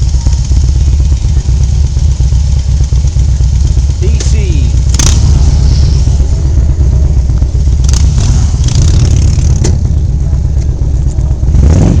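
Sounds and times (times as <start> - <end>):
vehicle rumble: 0.0 - 12.0
wind: 0.0 - 12.0.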